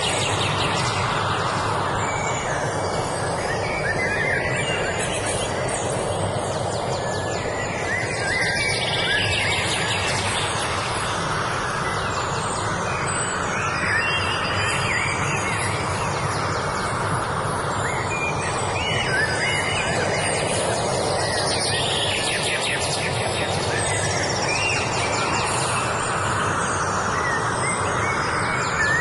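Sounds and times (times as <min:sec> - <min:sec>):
steady rushing background noise: 0:00.0 - 0:29.0
wild birds chirping and whistling: 0:00.0 - 0:29.0.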